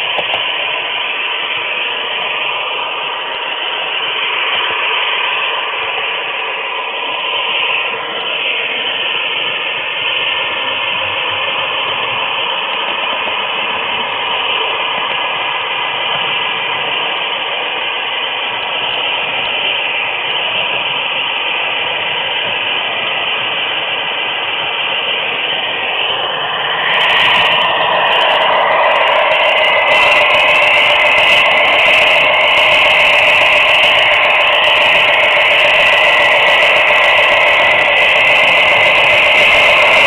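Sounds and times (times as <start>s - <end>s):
model train wheels rumbling on rails: 0.0s - 40.0s.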